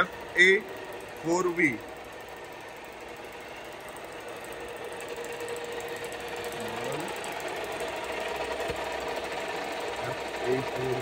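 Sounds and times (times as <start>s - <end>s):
fast rhythmic ticking: 0.0s - 11.0s
machinery humming: 0.0s - 11.0s.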